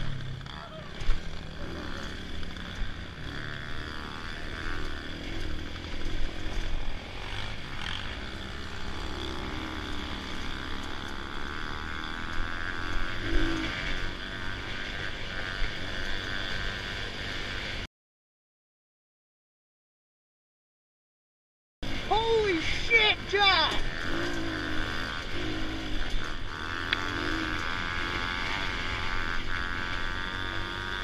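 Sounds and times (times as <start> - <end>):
dirt bike engine revving: 0.0 - 17.9, 21.8 - 31.0.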